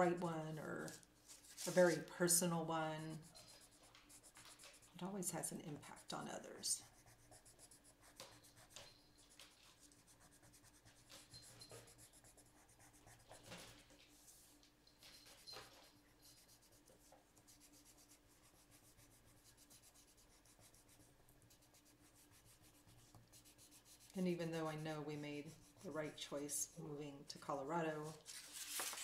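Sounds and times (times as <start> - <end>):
pencil scratching on paper: 0.8 - 13.9, 16.2 - 27.6.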